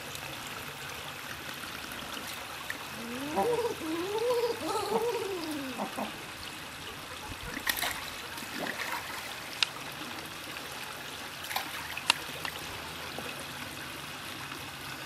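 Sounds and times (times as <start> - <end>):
water trickling into a pond: 0.0 - 15.0.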